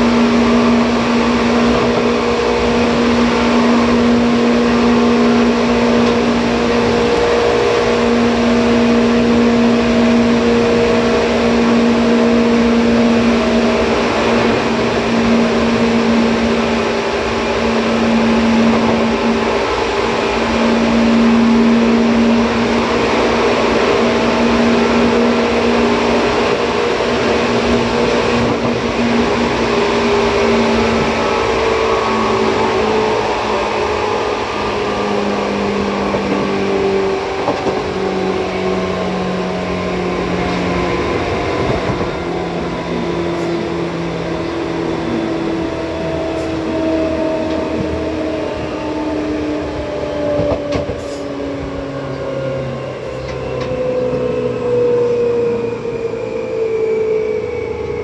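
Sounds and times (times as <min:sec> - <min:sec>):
electric train hum with held tones: 0:00.0 - 0:58.0
wheels rumbling on rail: 0:00.0 - 0:58.0.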